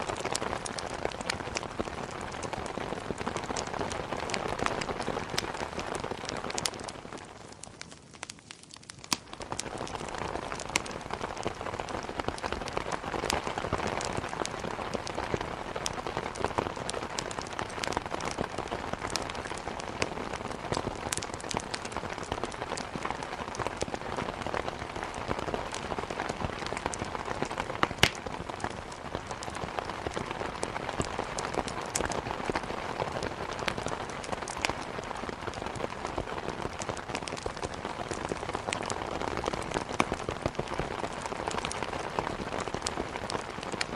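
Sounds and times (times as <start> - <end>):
heavy rain hitting a surface: 0.0 - 43.9.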